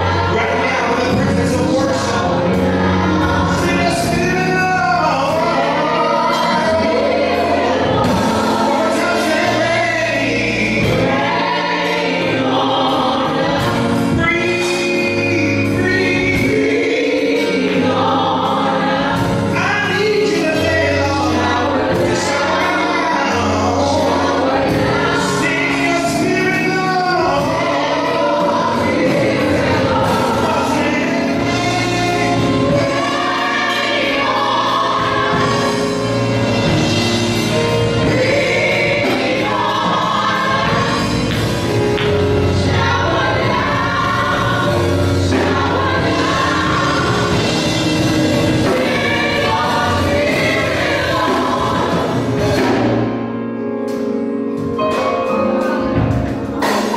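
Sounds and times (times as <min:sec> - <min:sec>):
women singing gospel: 0:00.0 - 0:53.3
drum kit: 0:00.0 - 0:56.9
keyboard: 0:00.0 - 0:56.9.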